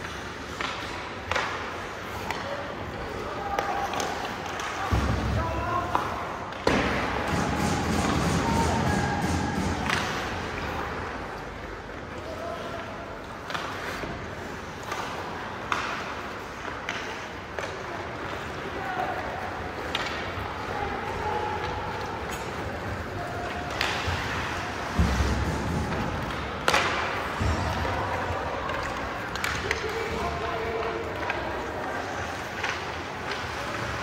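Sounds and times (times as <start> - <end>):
hockey sticks and puck clacking: 0.0 - 34.0
voices echoing in hall: 1.6 - 14.5, 16.4 - 34.0.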